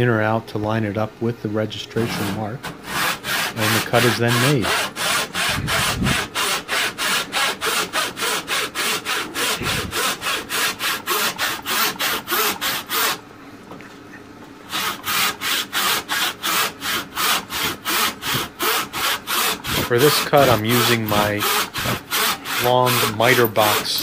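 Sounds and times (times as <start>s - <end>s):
hand saw cutting wood: 2.0s - 13.2s, 14.7s - 24.0s.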